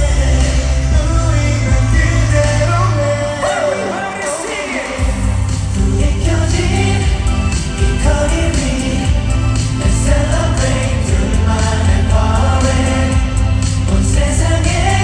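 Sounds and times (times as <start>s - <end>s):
heavy bass line: 0.0s - 3.4s, 5.0s - 15.0s
live pop band music: 0.0s - 15.0s
voices singing together: 0.0s - 15.0s.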